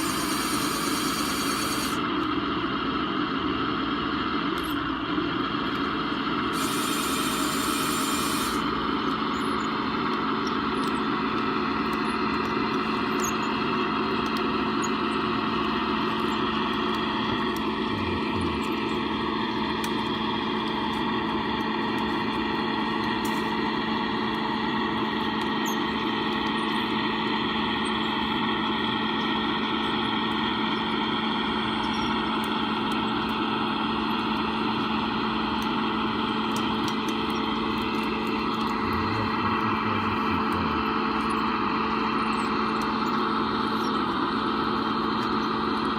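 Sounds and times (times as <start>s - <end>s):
toy bulldozer mechanical drone: 0.0s - 2.3s, 3.7s - 45.9s.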